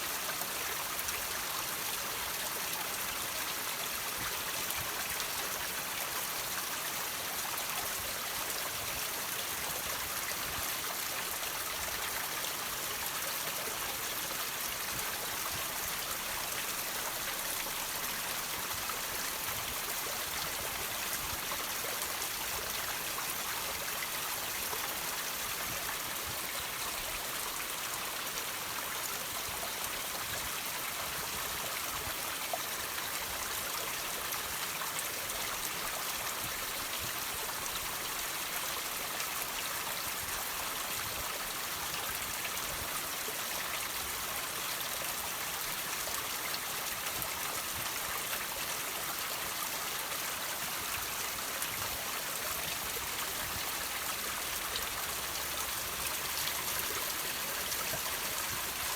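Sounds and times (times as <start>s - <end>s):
water trickling over rocks: 0.0s - 58.9s.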